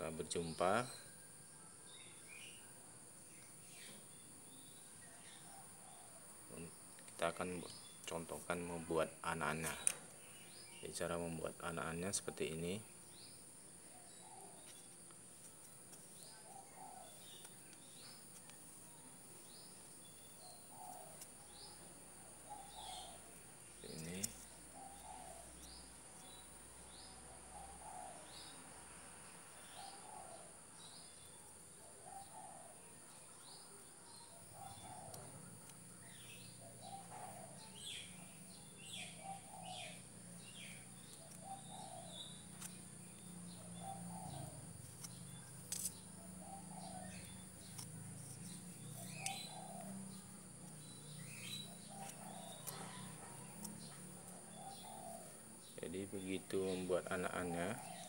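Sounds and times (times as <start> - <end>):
steady high-pitched hiss: 0.0 - 58.0.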